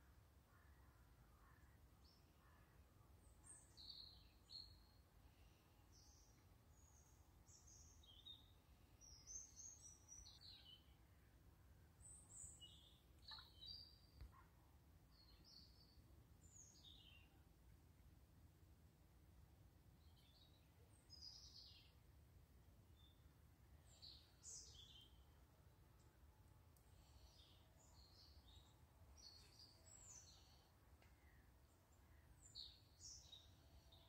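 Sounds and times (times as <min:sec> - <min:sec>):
faint birdsong: 0:00.0 - 0:34.0.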